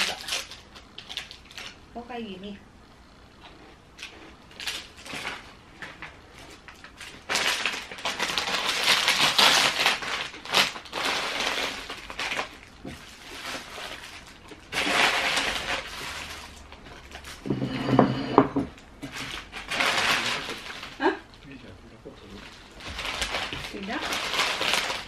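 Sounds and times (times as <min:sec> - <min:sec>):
plastic bags crinkling: 0:00.0 - 0:01.8, 0:04.0 - 0:18.0, 0:19.0 - 0:25.0.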